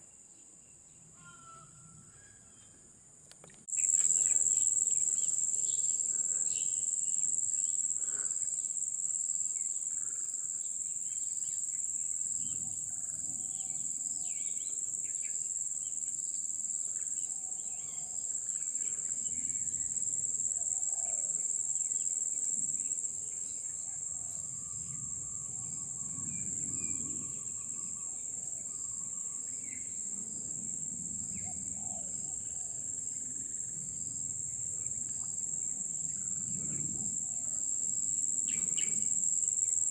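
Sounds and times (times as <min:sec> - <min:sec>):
insects droning: 0:03.3 - 0:39.9.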